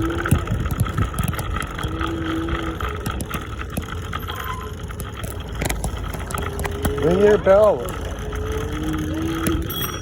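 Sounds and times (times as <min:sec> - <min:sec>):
scooter rolling on paved path: 0:00.0 - 0:10.0.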